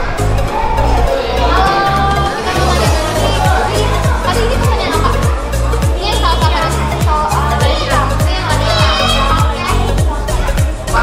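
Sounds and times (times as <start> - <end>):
music with sliding bass: 0.0 - 11.0.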